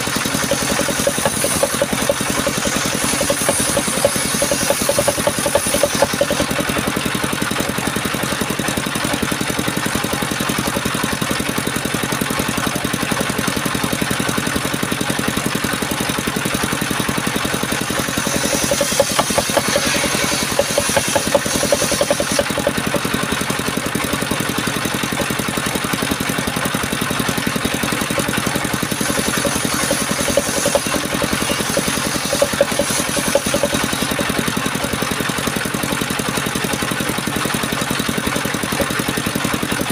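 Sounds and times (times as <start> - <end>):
sawmill engine droning: 0.0 - 39.9.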